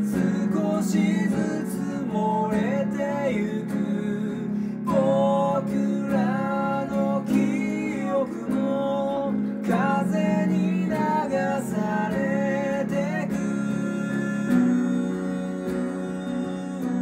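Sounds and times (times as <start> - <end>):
acoustic guitar strumming: 0.0 - 17.0
man singing a slow ballad: 0.0 - 17.0.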